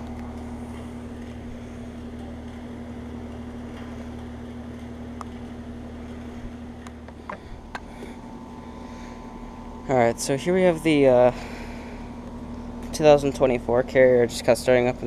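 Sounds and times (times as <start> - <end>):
compressor hum: 0.0 - 15.0
condenser fan rushing: 0.0 - 15.0.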